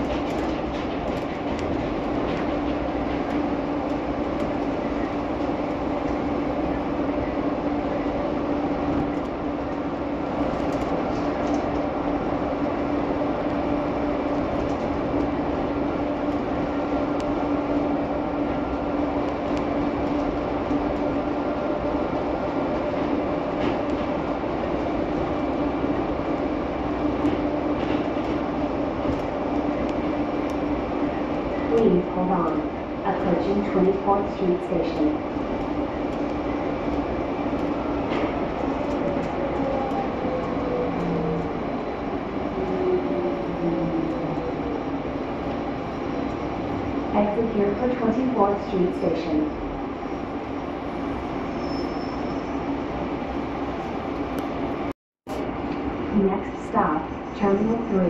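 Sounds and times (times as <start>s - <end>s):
train running rumble: 0.0s - 51.4s.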